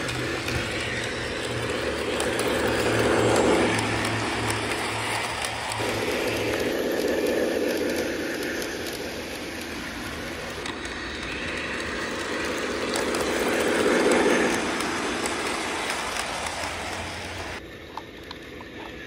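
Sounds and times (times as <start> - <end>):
toy train rumbling on track: 0.0 - 19.0.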